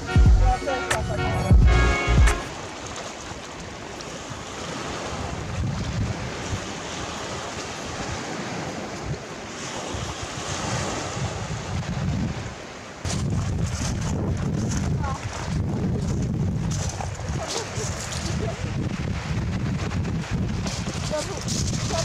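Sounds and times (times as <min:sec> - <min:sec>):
wind buffeting microphone: 0:02.3 - 0:22.0
waves washing over stones: 0:02.4 - 0:22.0.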